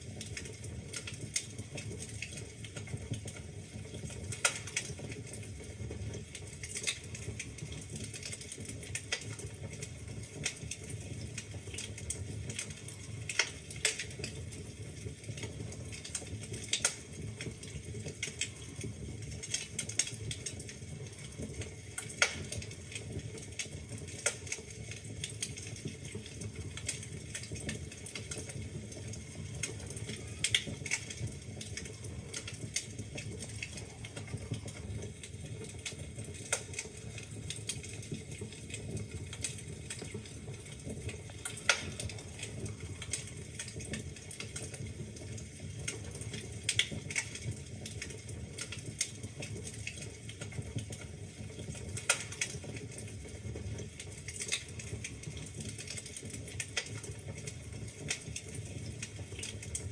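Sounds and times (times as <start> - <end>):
fire low rumble: 0.0 - 59.9
logs crackling and popping: 0.0 - 59.9.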